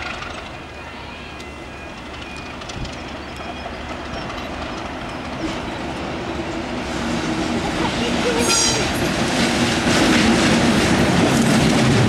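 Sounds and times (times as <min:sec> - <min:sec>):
diesel locomotives approaching: 0:00.0 - 0:12.0.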